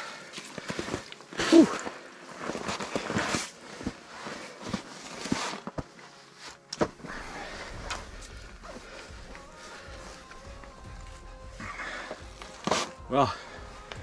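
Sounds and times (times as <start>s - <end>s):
clothing rustling: 0.0s - 14.0s
footsteps on snow: 0.0s - 14.0s.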